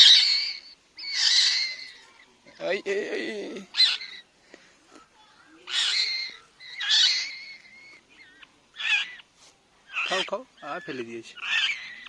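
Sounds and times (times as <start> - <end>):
fledgling bird screeching: 0.0 - 4.3, 5.2 - 12.0.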